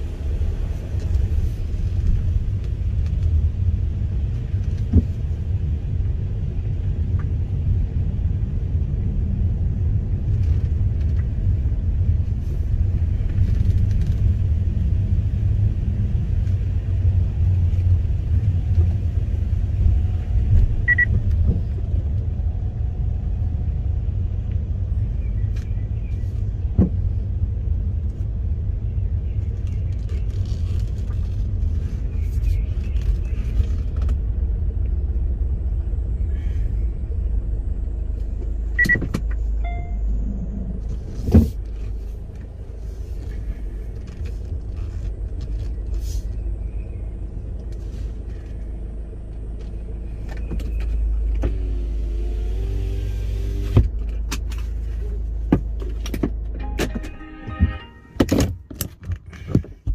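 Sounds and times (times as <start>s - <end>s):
car engine rumble: 0.0s - 59.9s.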